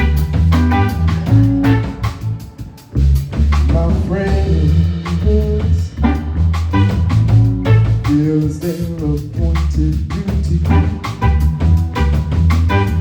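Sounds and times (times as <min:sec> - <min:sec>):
blues band playing: 0:00.0 - 0:13.0
low bass line: 0:00.0 - 0:13.0.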